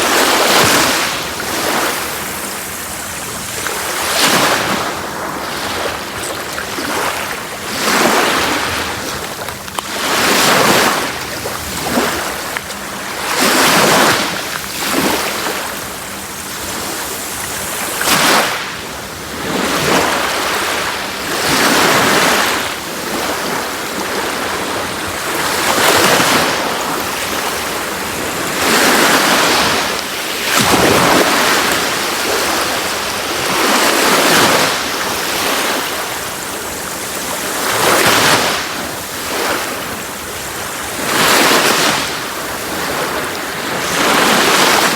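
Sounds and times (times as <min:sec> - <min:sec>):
sea waves breaking on shore: 0:00.0 - 0:44.9.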